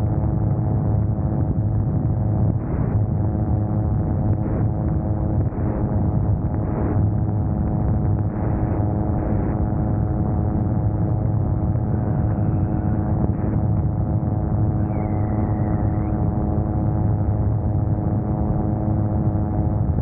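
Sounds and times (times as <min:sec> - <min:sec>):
aircraft engine and propeller droning: 0:00.0 - 0:19.7.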